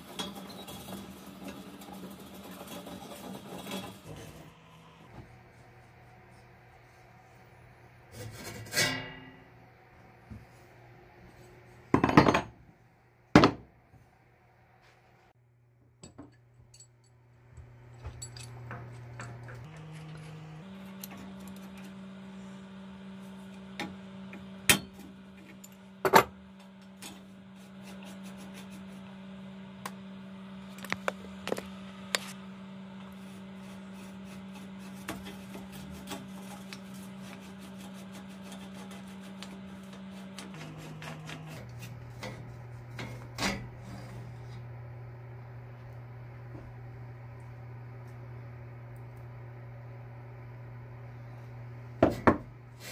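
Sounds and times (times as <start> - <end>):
steady low hum: 3.7 - 52.9.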